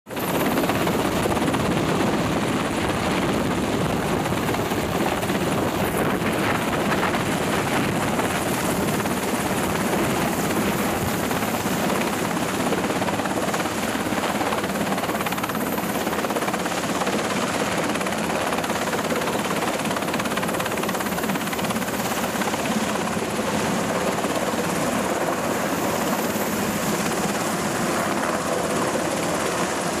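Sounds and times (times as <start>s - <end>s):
helicopter engines and rotor: 0.1s - 30.0s.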